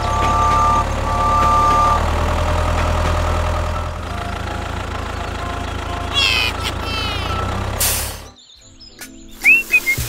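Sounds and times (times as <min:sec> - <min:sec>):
tractor engine idling: 0:00.0 - 0:08.3.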